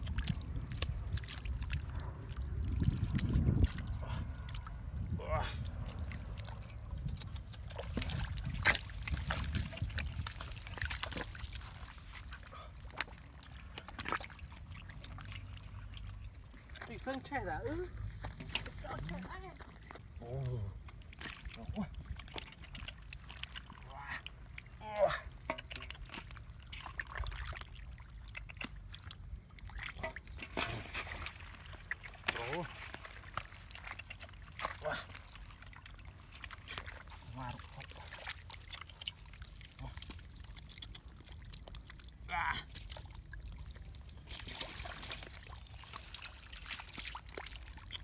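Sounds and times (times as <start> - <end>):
hands splashing in water and mud: 0.0 - 4.9, 5.6 - 48.0.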